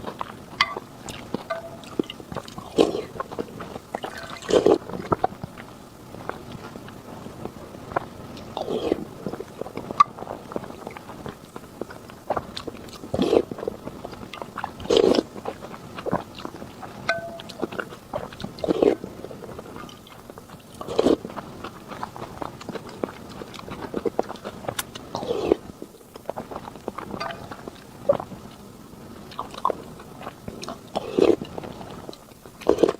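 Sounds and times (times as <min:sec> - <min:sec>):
biting or slurping: 0:00.0 - 0:07.0, 0:07.9 - 0:28.6, 0:29.2 - 0:32.9
chewing with wet mouth clicks: 0:00.0 - 0:32.9.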